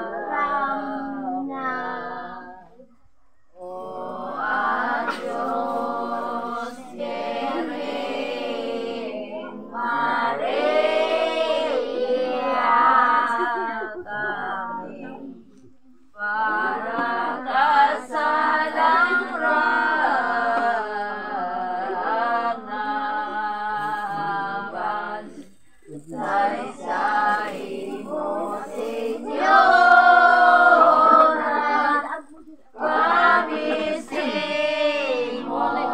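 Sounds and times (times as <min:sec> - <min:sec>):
children singing unaccompanied: 0:00.0 - 0:02.9, 0:03.6 - 0:35.9.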